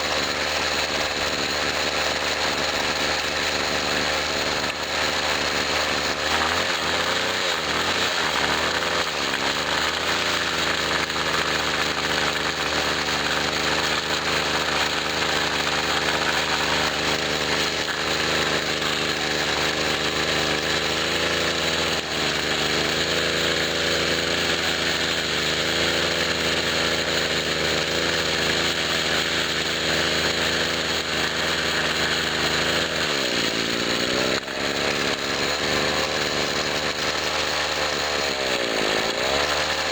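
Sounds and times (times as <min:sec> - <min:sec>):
string trimmer engine running: 0:00.0 - 0:39.9.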